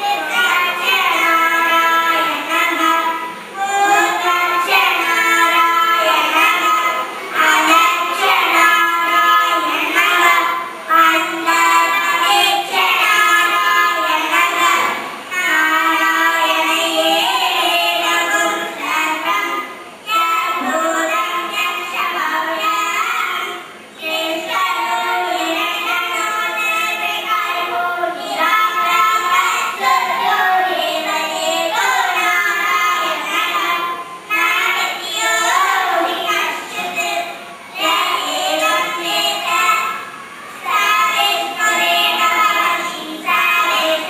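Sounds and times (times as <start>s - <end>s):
girls singing into microphones: 0.0s - 44.0s.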